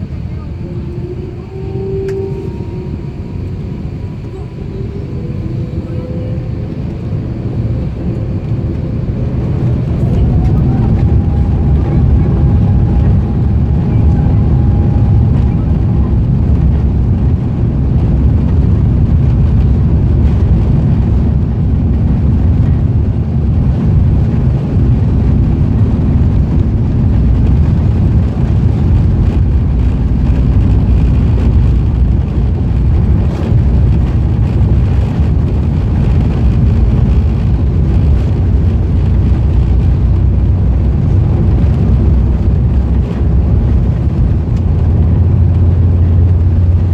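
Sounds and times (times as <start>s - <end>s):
jet engines and airflow in cabin: 0.0s - 46.9s.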